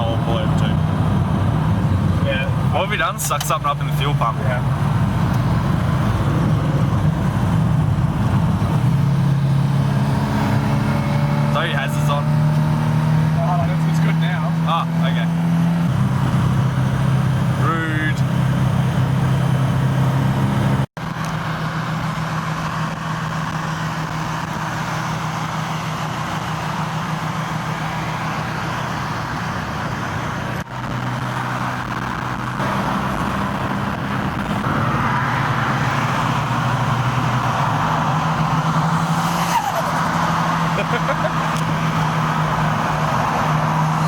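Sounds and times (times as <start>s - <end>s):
car engine hum: 0.0s - 44.0s
road noise: 0.0s - 44.0s.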